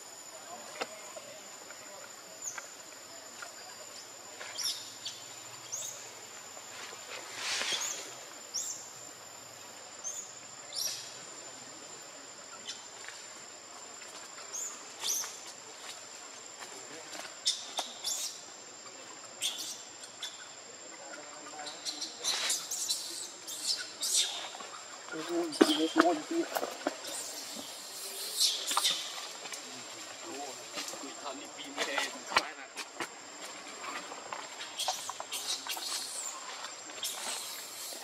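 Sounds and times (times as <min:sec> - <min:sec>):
high-pitched insect drone: 0:00.0 - 0:32.8, 0:33.4 - 0:38.0.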